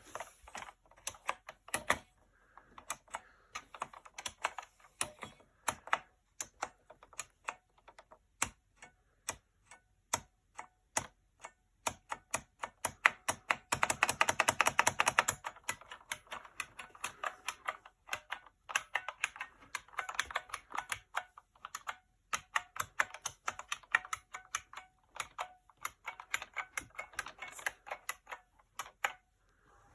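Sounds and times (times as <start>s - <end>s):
mechanical keyboard typing: 0.0s - 29.2s.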